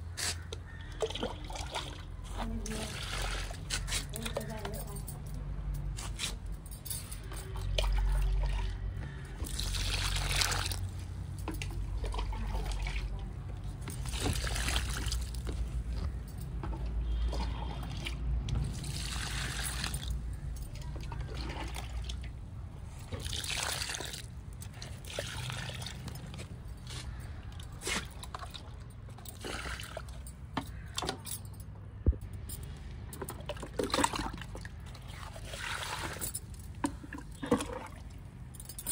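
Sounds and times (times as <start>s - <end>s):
liquid trickling and splashing on soil: 0.1s - 5.2s, 7.3s - 16.2s, 16.9s - 31.2s, 32.8s - 38.9s.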